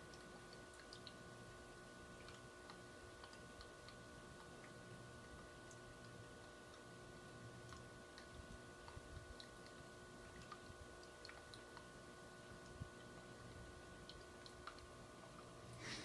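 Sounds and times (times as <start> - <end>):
faint ticks and clicks: 0.0 - 15.8
faint steady hum: 0.0 - 16.0.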